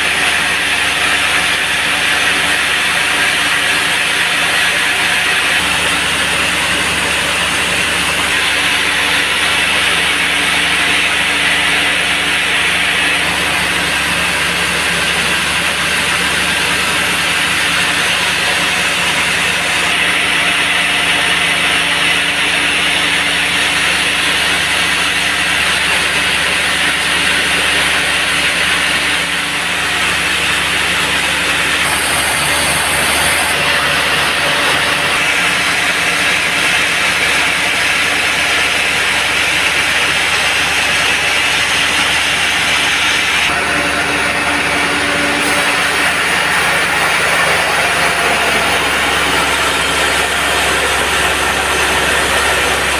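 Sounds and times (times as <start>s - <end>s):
sawmill motor drone: 0.0s - 52.9s.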